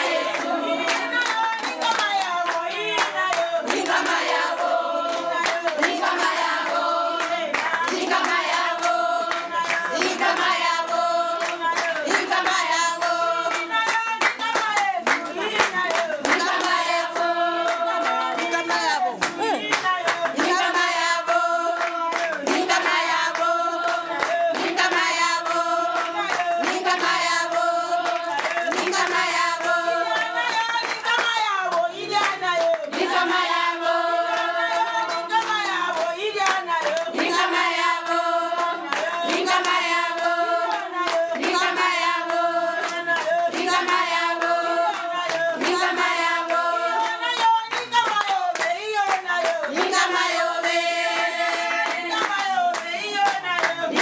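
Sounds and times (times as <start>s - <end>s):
group of people singing: 0.0s - 54.0s
rhythmic handclapping: 0.0s - 54.0s.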